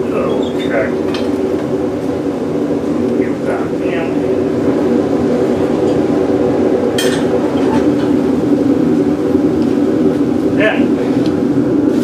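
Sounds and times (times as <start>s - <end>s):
furnace burner drone: 0.0s - 12.0s.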